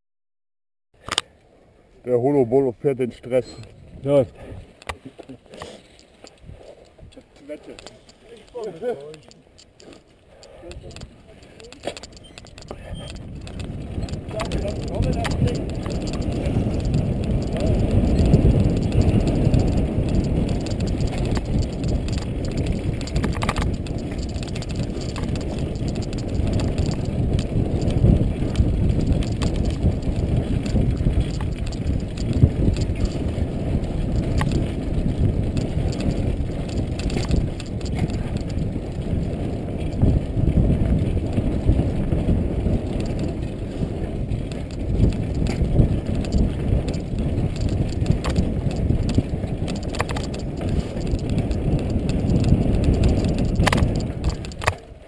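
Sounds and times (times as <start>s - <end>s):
low rumble of ground and wind: 1.0s - 55.0s
bicycle clicks and knocks: 7.6s - 55.0s.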